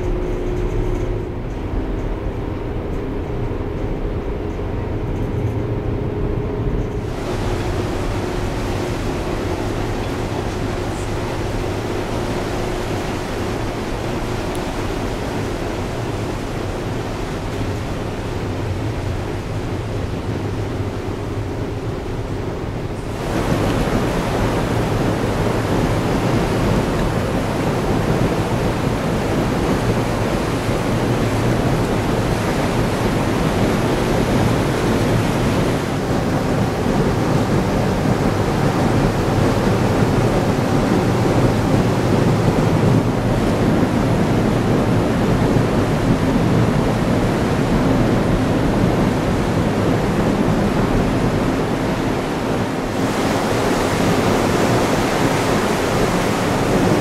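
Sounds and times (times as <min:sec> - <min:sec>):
wind buffeting microphone: 0:00.0 - 0:57.0
propeller wash churning water: 0:06.6 - 0:57.0.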